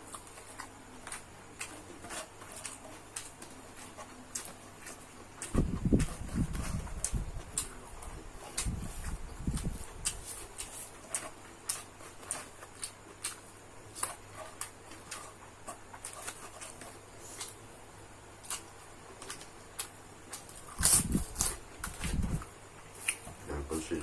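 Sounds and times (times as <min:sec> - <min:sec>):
chewing with wet mouth smacks: 0:00.0 - 0:17.7, 0:18.3 - 0:23.4.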